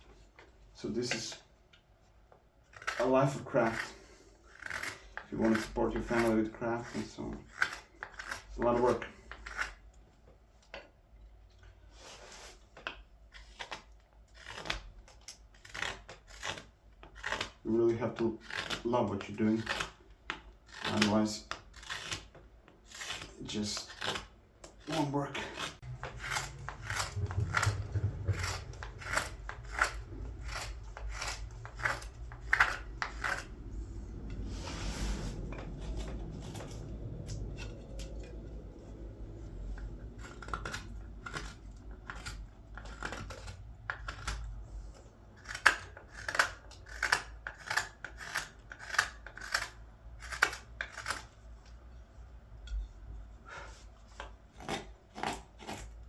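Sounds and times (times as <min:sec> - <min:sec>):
knife carving green wood: 0:00.0 - 0:56.0.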